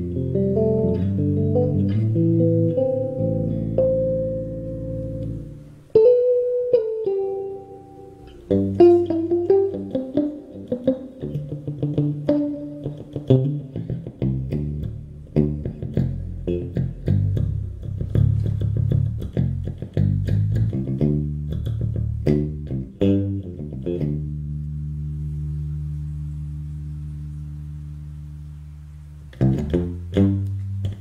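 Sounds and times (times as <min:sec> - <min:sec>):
bass chord ringing: 0:00.0 - 0:31.0
electric bass plucked notes: 0:00.0 - 0:31.0.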